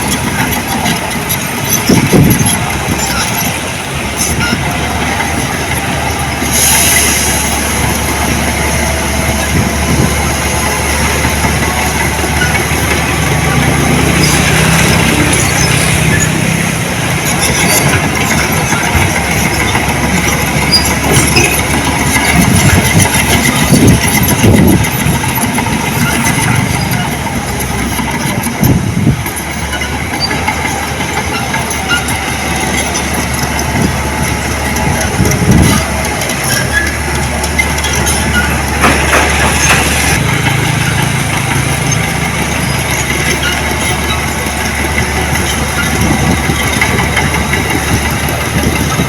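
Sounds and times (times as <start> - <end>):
diesel engine of earthmoving machinery: 0.0 - 49.0.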